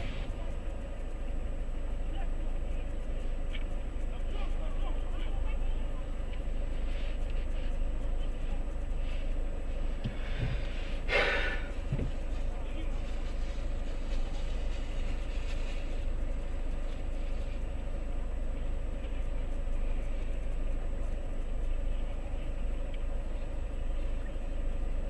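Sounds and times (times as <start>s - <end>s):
faint high whine: 0.0s - 25.0s
vehicle engine and road rumble: 0.0s - 25.0s.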